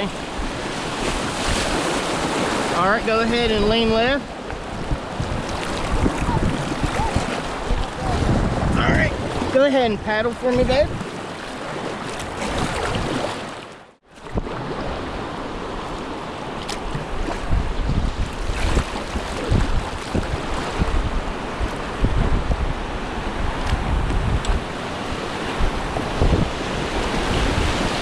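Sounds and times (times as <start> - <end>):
wind buffeting microphone: 0.0 - 13.4, 14.2 - 28.0.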